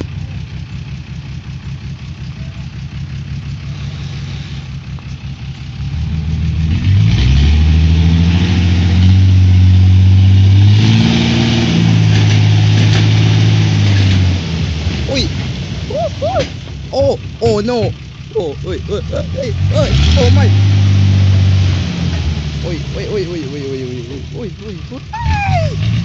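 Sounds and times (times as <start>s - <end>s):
truck engine idling and revving: 0.0s - 26.0s.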